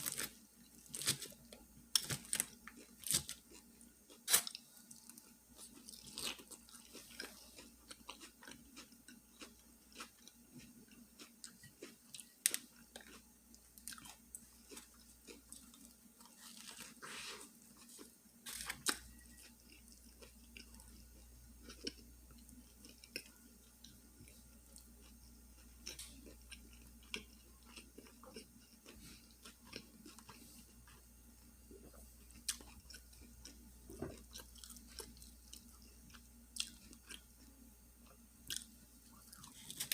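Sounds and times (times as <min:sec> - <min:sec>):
sandwich being chewed: 0:00.0 - 0:39.9.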